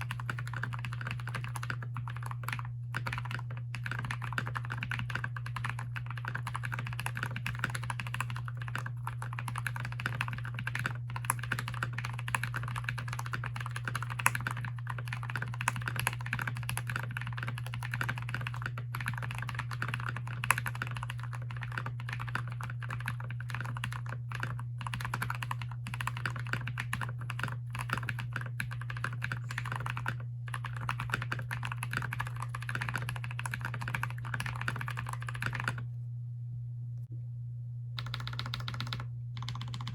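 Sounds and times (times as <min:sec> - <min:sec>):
mechanical keyboard typing: 0:00.0 - 0:35.8, 0:38.0 - 0:39.9.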